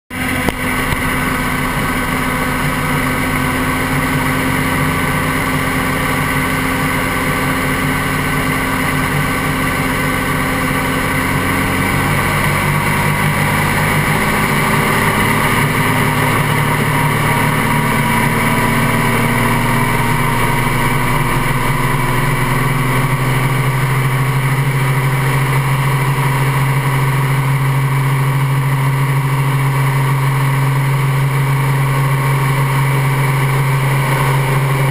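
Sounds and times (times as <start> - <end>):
helicopter engine and rotor: 0.3 - 34.9.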